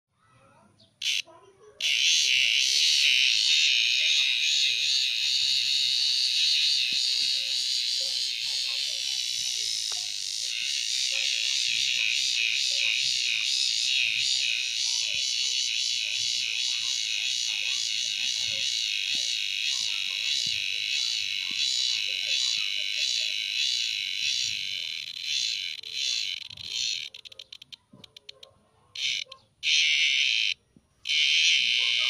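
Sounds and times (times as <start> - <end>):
cicada pulsing buzz: 1.0 - 1.2, 1.8 - 27.7, 29.0 - 32.0.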